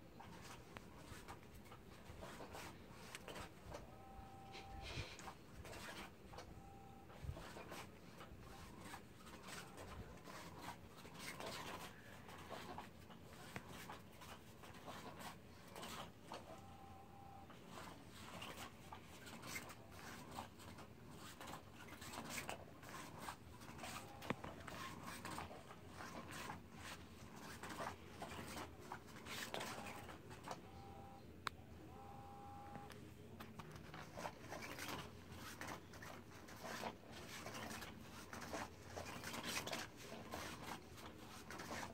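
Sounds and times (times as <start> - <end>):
faint motor whines: 0.0 - 41.9.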